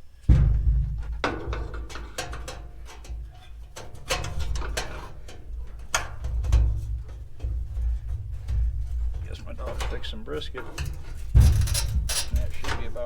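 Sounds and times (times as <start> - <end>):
metal grill parts clanking: 0.0 - 13.0.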